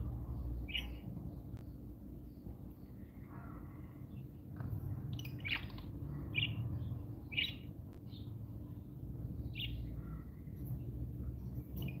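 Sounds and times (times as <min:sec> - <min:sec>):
lovebirds chirping: 0:00.0 - 0:12.0
low background rumble: 0:00.0 - 0:12.0.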